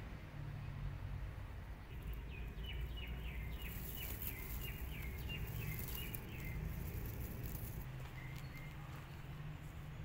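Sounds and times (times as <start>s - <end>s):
small bird chirping: 1.7s - 10.0s.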